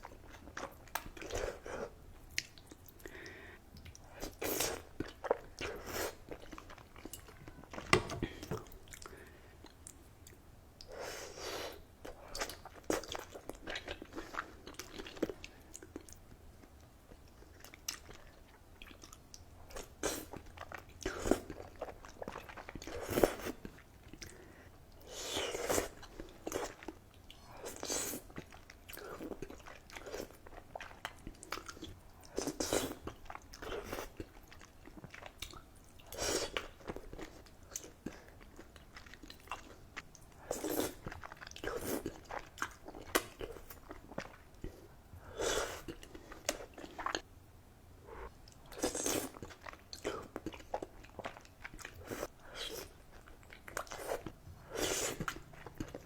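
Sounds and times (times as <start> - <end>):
person chewing noodles: 0.0 - 47.3, 48.1 - 56.0.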